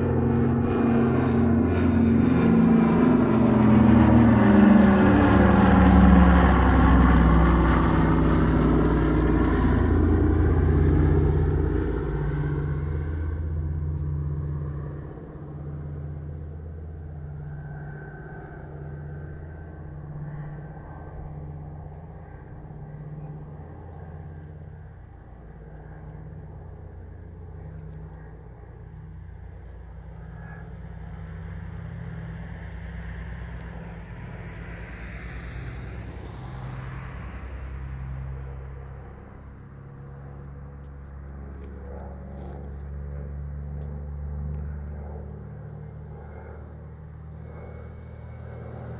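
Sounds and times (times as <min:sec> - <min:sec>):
propeller plane droning overhead: 0:00.0 - 0:48.9.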